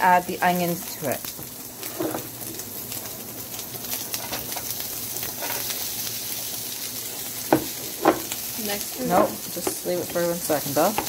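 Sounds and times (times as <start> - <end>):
sausage sizzling in a frying pan: 0.0 - 11.0.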